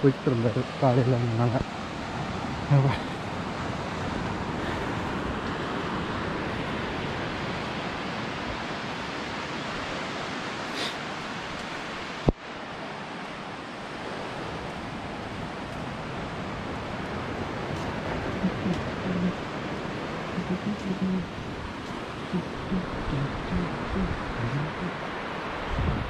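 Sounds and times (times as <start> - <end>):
sea surf: 0.0 - 26.0
wind: 0.0 - 26.0.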